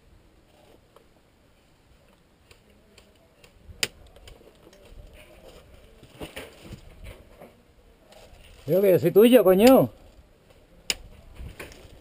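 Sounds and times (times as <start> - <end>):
crackling and rustling in dry scrub: 0.3 - 12.0.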